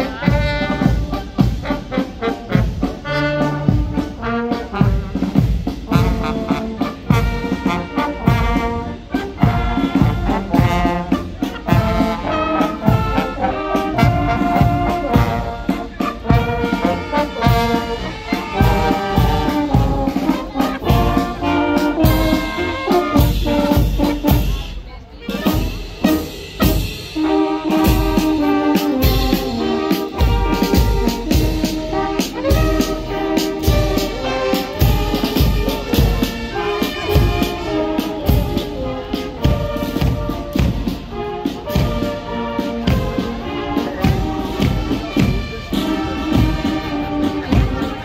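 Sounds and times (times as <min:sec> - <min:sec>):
brass band playing a march: 0:00.0 - 0:48.0
steady drum beat: 0:00.0 - 0:48.0.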